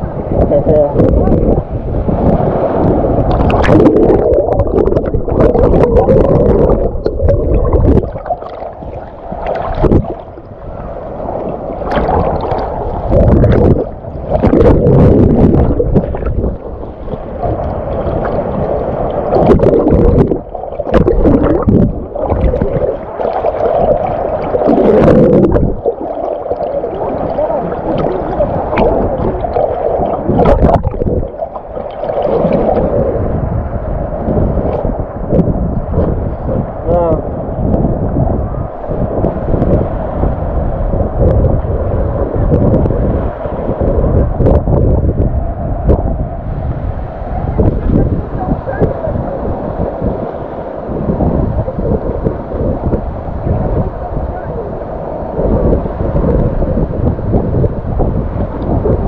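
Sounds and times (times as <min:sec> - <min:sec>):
waves washing on beach: 0:00.0 - 0:59.0
wind gusting on microphone: 0:00.0 - 0:59.0.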